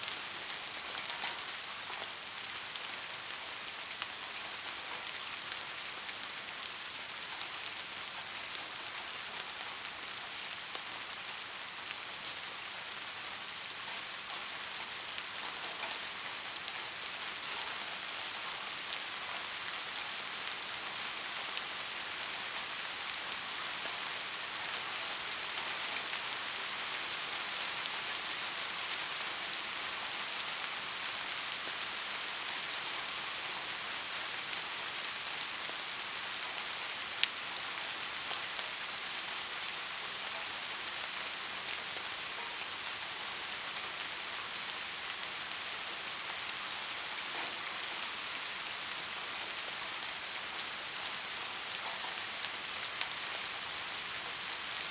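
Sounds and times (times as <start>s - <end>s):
individual raindrops: 0.0s - 54.9s
steady rain hiss: 0.0s - 54.9s.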